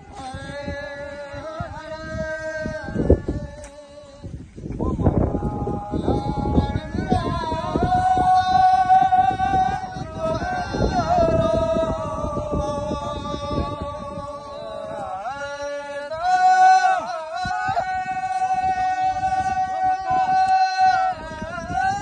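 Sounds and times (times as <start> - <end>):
person singing folk song: 0.0 - 22.0.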